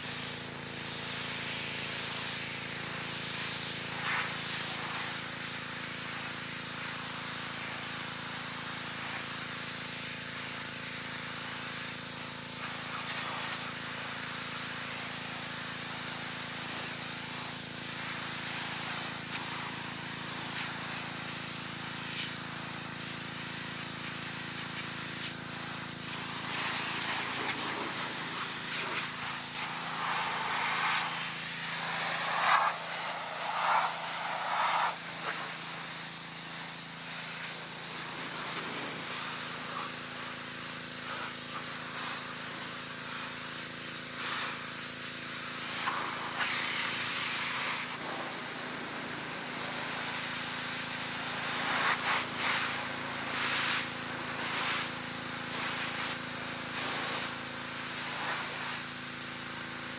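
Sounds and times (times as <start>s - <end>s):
pressure washer spraying metal: 0.0s - 59.9s.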